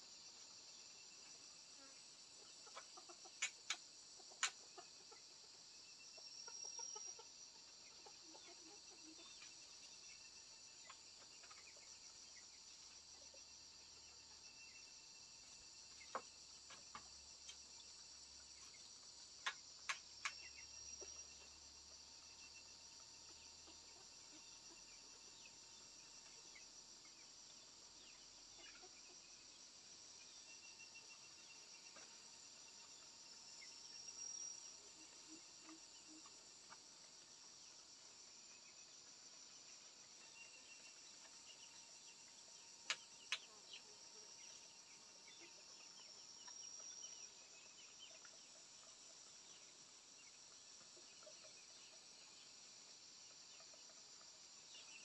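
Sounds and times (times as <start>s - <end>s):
crickets and insects chorus: 0.0s - 55.0s.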